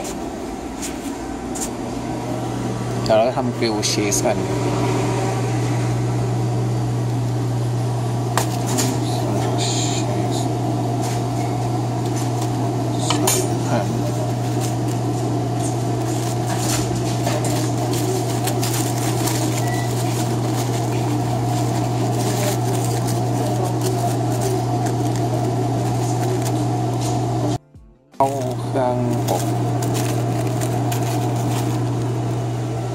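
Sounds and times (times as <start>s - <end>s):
low mechanical hum: 0.0s - 27.6s, 28.2s - 32.9s.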